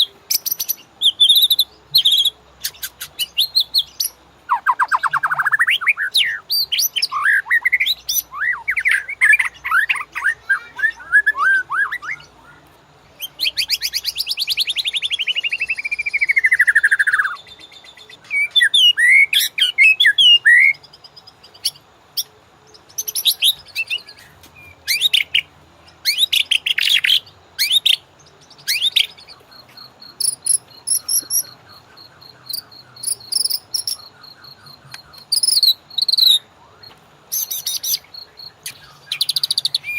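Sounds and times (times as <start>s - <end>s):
bird singing whistles and trills: 0.0s - 39.9s
high insect-like chirring: 0.0s - 39.9s.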